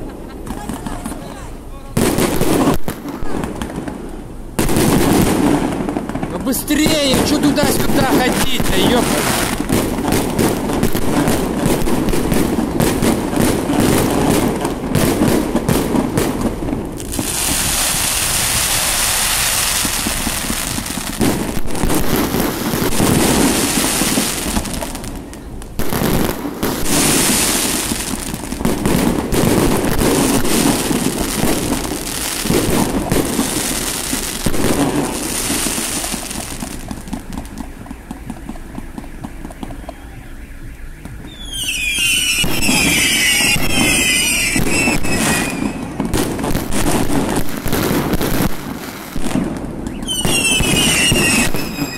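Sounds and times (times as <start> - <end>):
fireworks hissing crackle: 0.0 - 40.4, 41.0 - 51.9
fireworks banging: 0.0 - 51.9.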